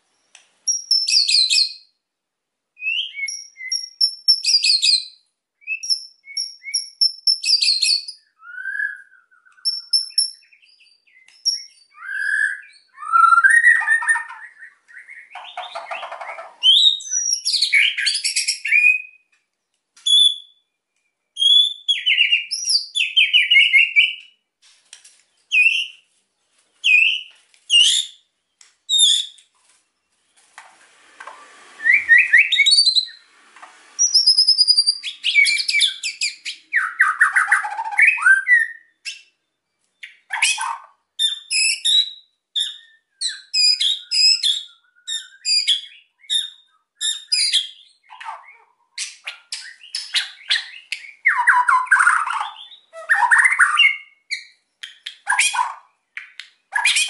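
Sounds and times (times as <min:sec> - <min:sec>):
songbird singing: 0:00.0 - 0:02.0, 0:02.8 - 0:24.5, 0:31.8 - 0:57.0.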